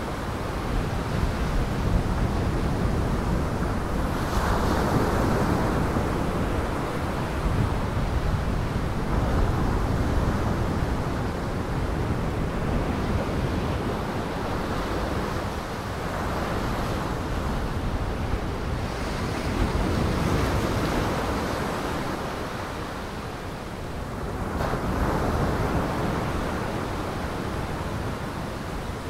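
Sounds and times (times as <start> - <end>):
surf breaking and churning: 0.0 - 29.0
wind: 0.0 - 29.0.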